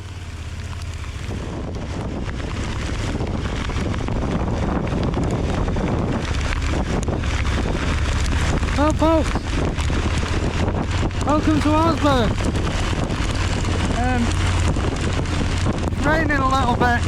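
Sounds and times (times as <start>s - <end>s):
motorcycle engine humming: 0.0s - 17.0s
wind rushing over microphone: 0.0s - 17.0s.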